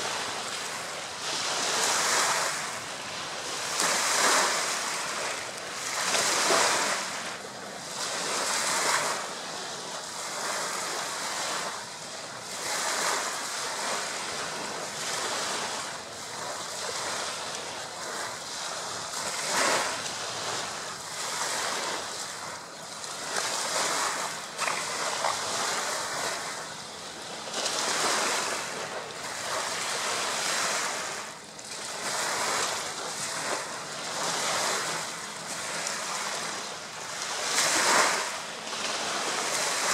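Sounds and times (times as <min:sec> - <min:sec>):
waves lapping on shingle beach: 0:00.0 - 0:39.9.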